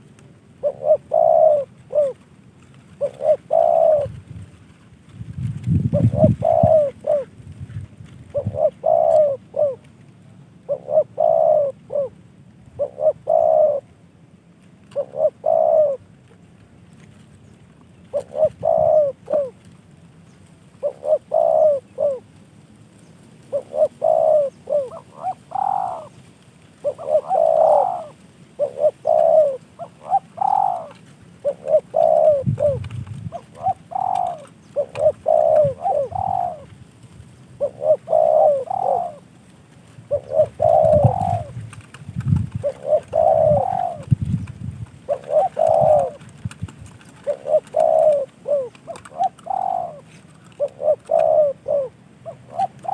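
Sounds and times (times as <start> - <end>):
dove cooing: 0.0 - 4.3, 5.6 - 14.1, 14.8 - 16.2, 18.0 - 19.8, 20.7 - 22.4, 23.4 - 52.9.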